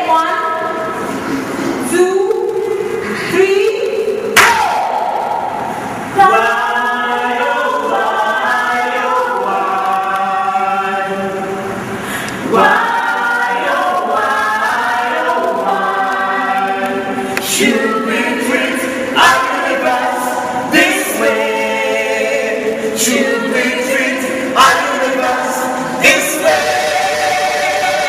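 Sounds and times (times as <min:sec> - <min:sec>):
group singing unaccompanied: 0:04.3 - 0:28.0.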